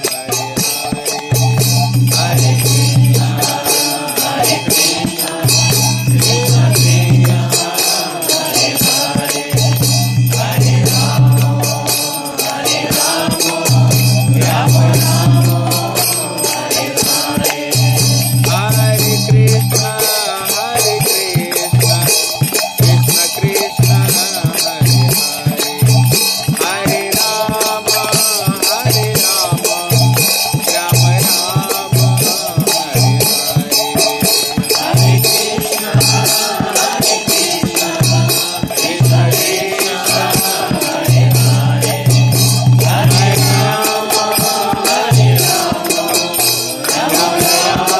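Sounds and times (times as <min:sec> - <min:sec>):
mantra chanting: 0:00.0 - 0:47.9
small hand cymbals: 0:00.0 - 0:47.9.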